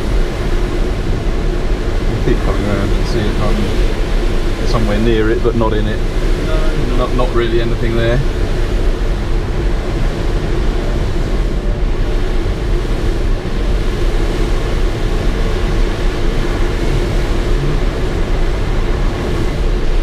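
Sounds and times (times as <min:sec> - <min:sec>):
air rushing over glider: 0:00.0 - 0:20.0
low rumble: 0:00.0 - 0:20.0.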